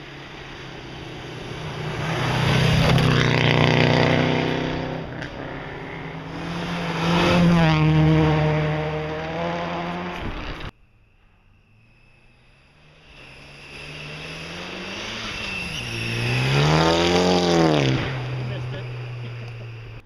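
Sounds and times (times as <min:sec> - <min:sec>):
rally car engine passing: 0:00.0 - 0:20.0.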